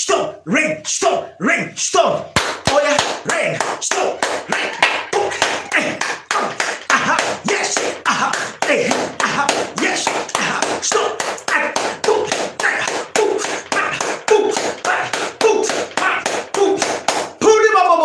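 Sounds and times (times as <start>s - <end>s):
man shouting and chanting: 0.0s - 18.0s
man clapping hands rapidly: 2.3s - 17.5s.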